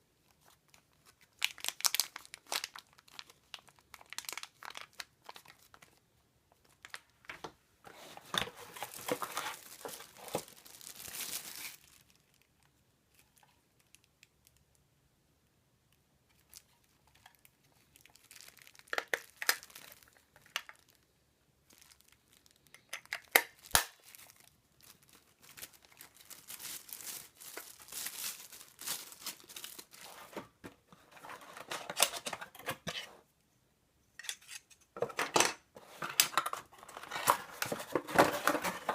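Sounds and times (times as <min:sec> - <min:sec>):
plastic wrapping crinkling and tearing: 0:00.2 - 0:06.0, 0:06.6 - 0:07.3, 0:08.0 - 0:14.7, 0:16.3 - 0:32.8, 0:35.9 - 0:38.9.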